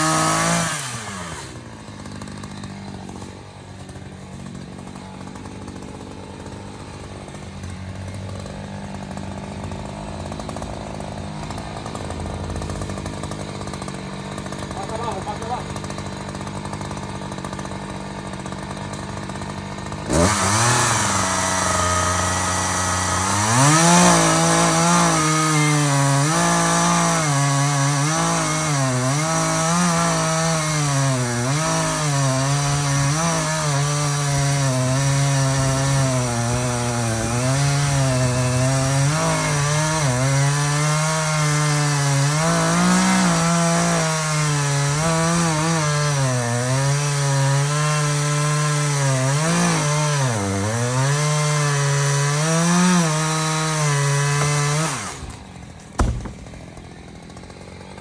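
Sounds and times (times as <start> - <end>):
chainsaw cutting through wood: 0.0 - 58.0.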